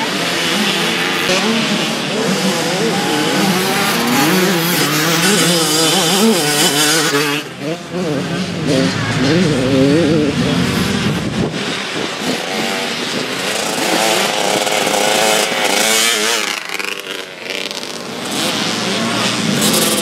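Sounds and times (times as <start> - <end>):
dirt bike engines racing: 0.0 - 20.0.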